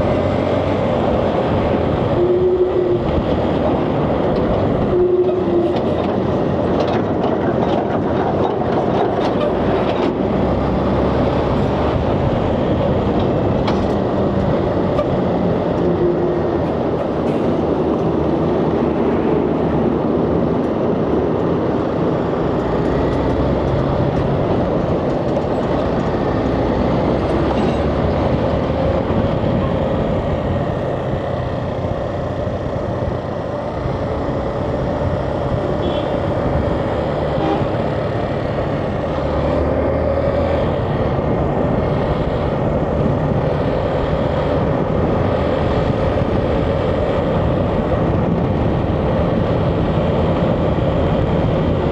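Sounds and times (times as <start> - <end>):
road noise: 0.0 - 51.9
wind noise: 0.0 - 51.9.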